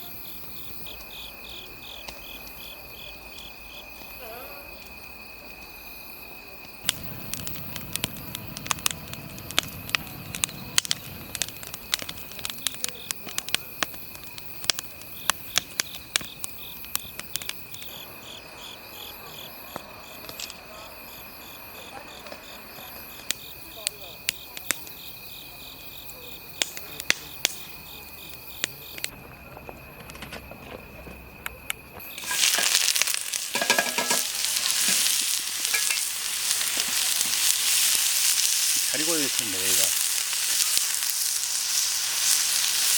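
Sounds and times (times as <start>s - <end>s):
crickets and insects chirping: 0.0s - 42.9s
fire crackling pops: 0.0s - 42.9s.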